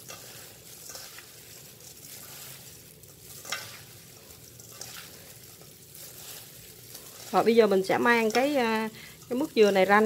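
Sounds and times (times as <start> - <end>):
plastic gloves crinkling: 0.0 - 10.0.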